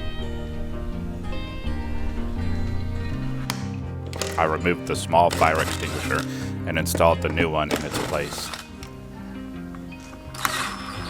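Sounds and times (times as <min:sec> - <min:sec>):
background music with bass line: 0:00.0 - 0:10.9.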